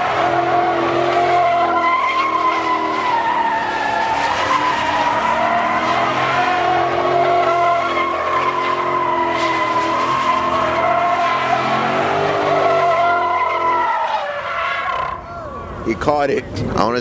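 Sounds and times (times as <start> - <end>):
car engine revving high: 0.0 - 15.2
tyres squealing: 0.0 - 15.8.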